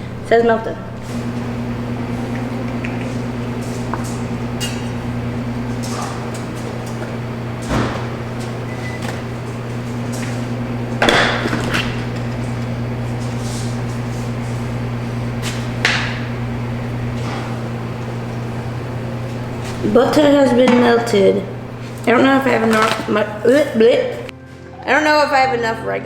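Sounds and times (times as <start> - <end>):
microwave oven humming: 0.0 - 24.4.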